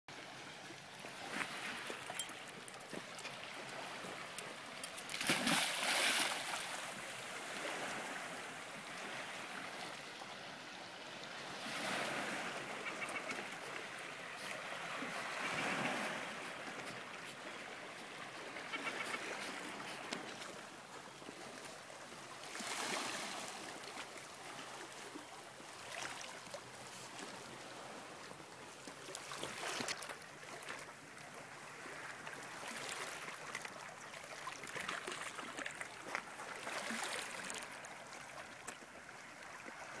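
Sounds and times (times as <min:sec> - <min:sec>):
water sloshing and lapping: 0:00.1 - 0:40.0.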